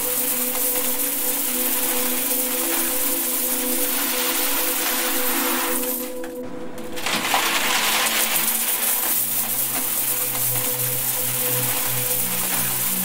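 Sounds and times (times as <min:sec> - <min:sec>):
coins clinking into metal bin: 0:00.0 - 0:06.3, 0:06.9 - 0:13.0
droning tones: 0:00.0 - 0:13.0.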